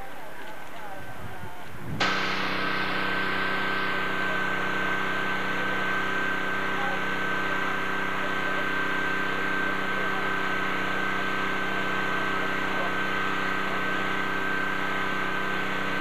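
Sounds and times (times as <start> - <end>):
steady mechanical hum: 0.0 - 16.0
thin high whine: 0.0 - 16.0.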